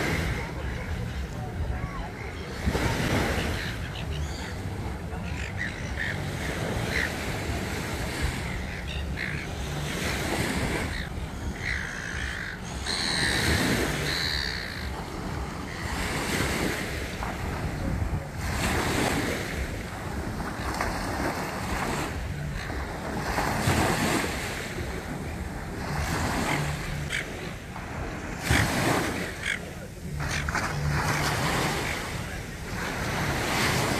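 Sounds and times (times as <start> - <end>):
waves washing on beach: 0.0 - 33.9.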